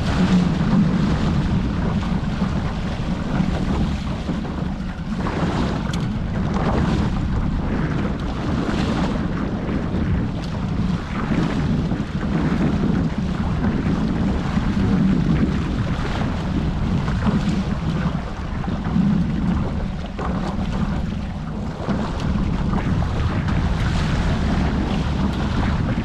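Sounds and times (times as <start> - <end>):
water splashing against hulls: 0.0 - 26.0
wind buffeting microphone: 0.0 - 26.0.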